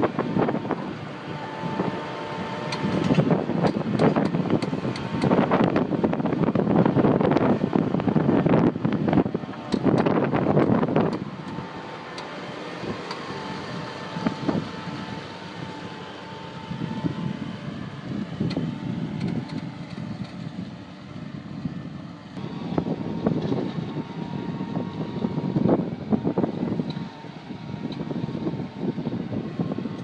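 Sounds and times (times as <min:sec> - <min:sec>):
wind buffeting microphone: 0:00.0 - 0:11.9, 0:12.7 - 0:30.0
tractor engine under load: 0:00.0 - 0:30.0.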